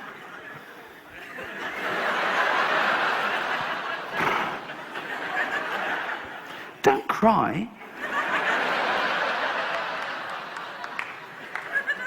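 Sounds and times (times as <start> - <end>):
audience laughing: 0.0 - 6.7, 7.8 - 12.0.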